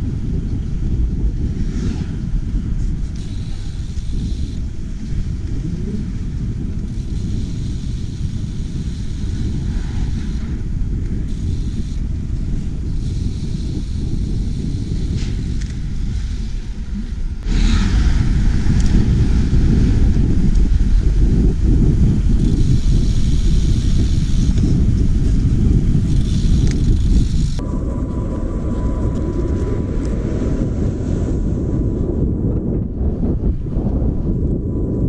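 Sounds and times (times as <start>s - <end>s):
traffic hum: 0.0s - 34.6s
wind noise on microphone: 0.0s - 35.0s.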